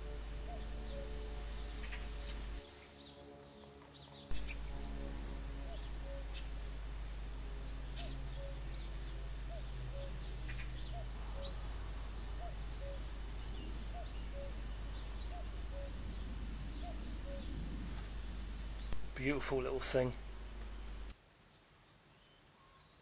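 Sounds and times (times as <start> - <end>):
bird chirps and calls: 0.0 - 3.2, 4.0 - 6.6, 7.3 - 20.1
faint low drone: 0.0 - 21.1
low hum: 0.0 - 21.1
background hiss: 0.0 - 23.0.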